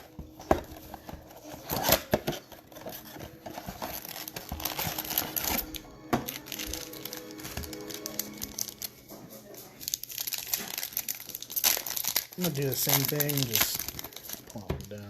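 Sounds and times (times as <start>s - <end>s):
plastic packaging crinkling and tearing: 0.0s - 15.0s.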